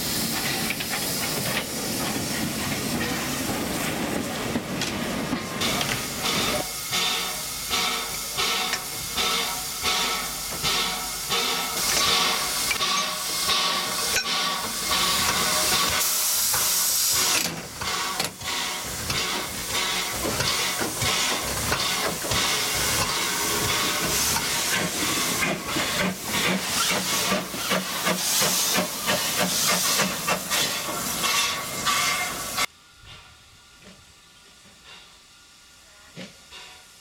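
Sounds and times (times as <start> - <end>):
steam hissing: 0.0 - 37.0
steam locomotive exhaust beats: 0.0 - 37.0.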